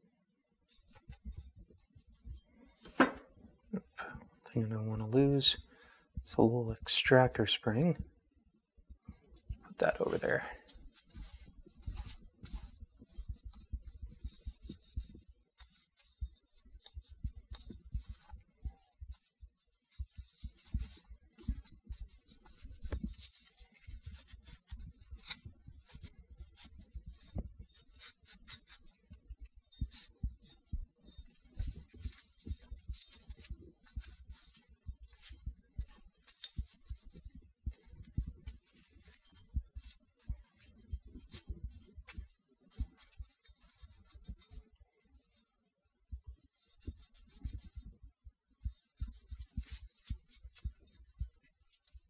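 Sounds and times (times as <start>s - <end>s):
cloth rubbing on pistol frame: 0.6s - 52.0s.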